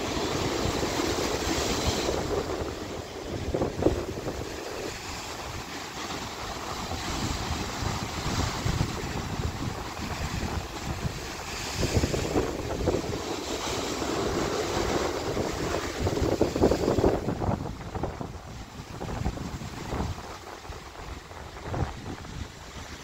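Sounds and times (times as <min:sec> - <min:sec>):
sea surf breaking on rocks: 0:00.0 - 0:23.0
wind buffeting microphone: 0:00.0 - 0:23.0.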